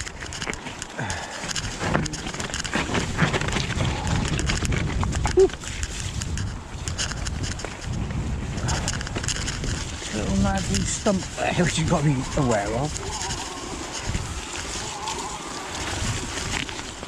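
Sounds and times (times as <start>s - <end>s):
bike rattling over rocks: 0.0s - 17.0s
wind noise on microphone: 0.0s - 17.0s.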